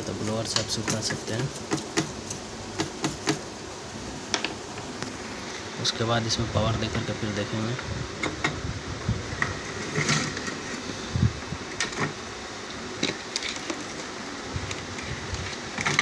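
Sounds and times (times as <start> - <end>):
room noise: 0.0 - 16.0.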